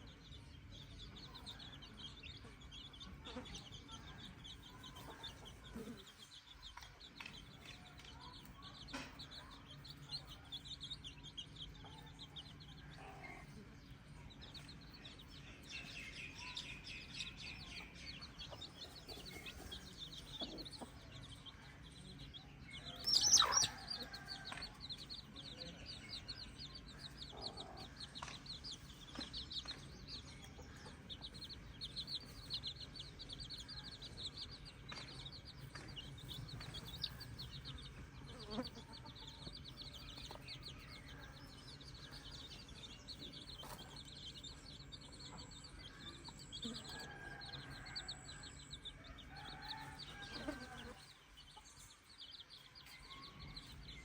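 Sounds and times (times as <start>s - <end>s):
chicks peeping: 0.0s - 54.0s
chicken clucks: 1.2s - 21.9s, 22.7s - 48.0s.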